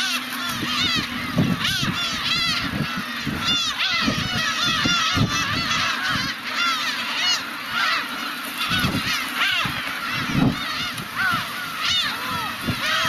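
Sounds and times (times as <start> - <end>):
gulls mewing cries: 0.0 - 13.0.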